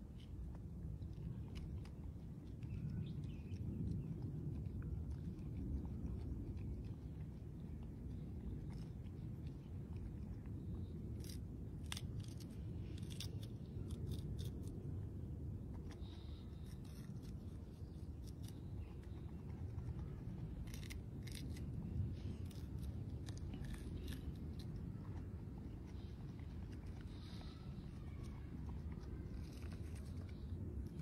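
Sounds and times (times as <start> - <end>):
crisp snaps and crunches: 0.0 - 15.0, 15.6 - 31.0
low background rumble: 0.0 - 31.0.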